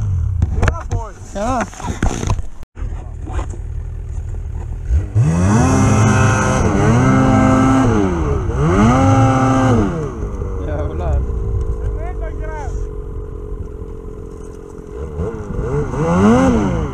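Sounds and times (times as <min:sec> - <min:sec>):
snowmobile engine revving: 0:00.0 - 0:16.9.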